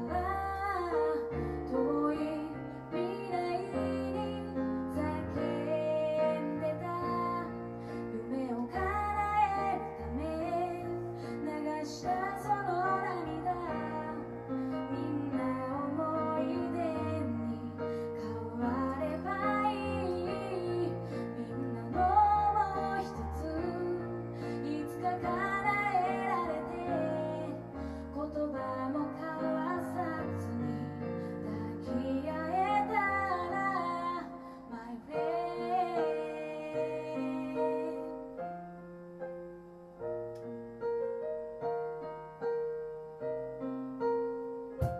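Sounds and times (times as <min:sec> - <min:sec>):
woman singing: 0:00.0 - 0:38.4.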